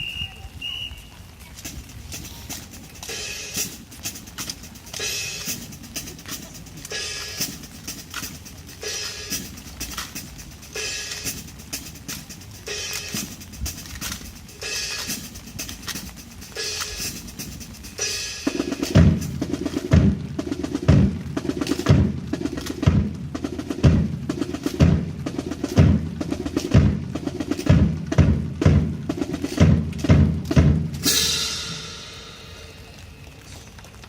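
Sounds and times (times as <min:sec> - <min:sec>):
snare drum rolls: 0:01.6 - 0:33.0
bass drum strokes: 0:01.6 - 0:33.1.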